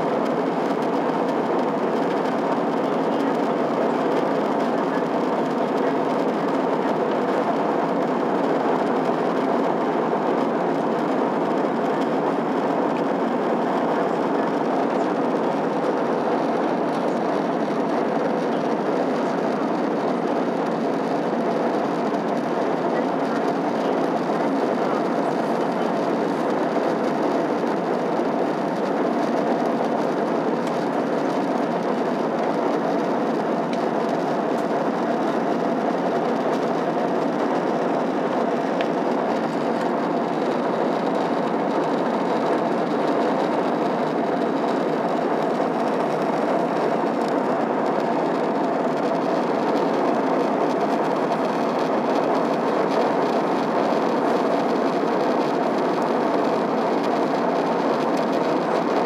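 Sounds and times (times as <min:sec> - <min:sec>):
jet engines humming: 0:00.0 - 0:54.9
airflow rush in airplane cabin: 0:00.0 - 0:59.0.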